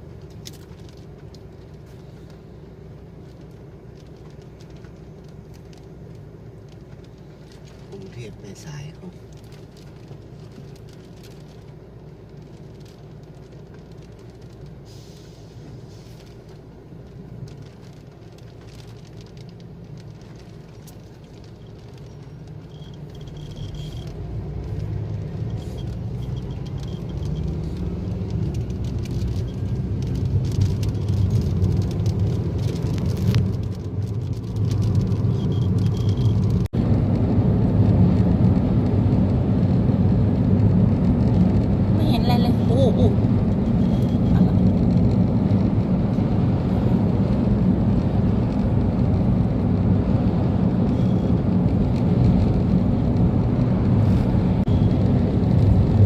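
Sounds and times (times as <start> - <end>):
vehicle road and engine rumble: 0.0 - 56.0.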